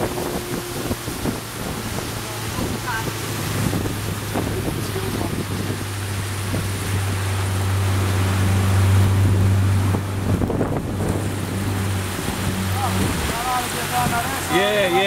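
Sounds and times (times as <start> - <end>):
boat motor humming: 0.0 - 15.0
water rushing past hull: 0.0 - 15.0
wind buffeting microphone: 0.0 - 15.0.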